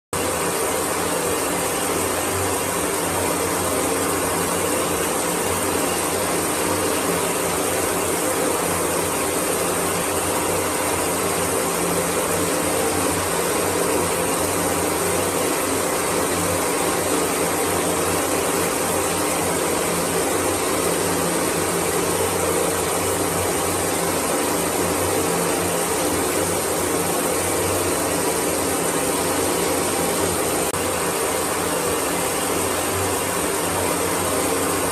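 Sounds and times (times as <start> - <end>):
water spraying from shower head: 0.3 - 34.9.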